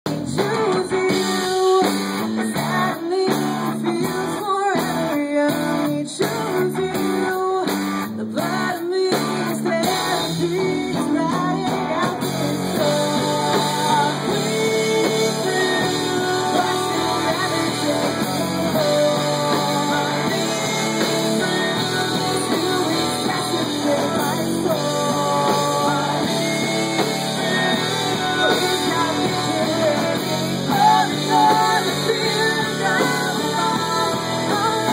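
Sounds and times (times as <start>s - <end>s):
drums: 0.0s - 34.9s
electric guitar: 0.0s - 34.9s
person singing into a microphone: 0.1s - 34.9s.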